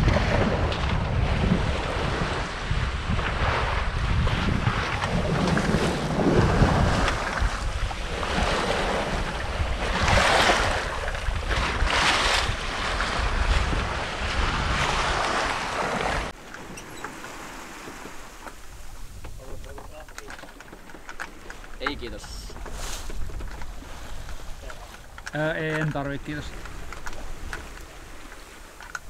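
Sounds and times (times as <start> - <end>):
wind noise on microphone: 0.0 - 20.2, 20.8 - 25.4, 26.2 - 29.0
water splashing along boat hull: 0.0 - 29.0.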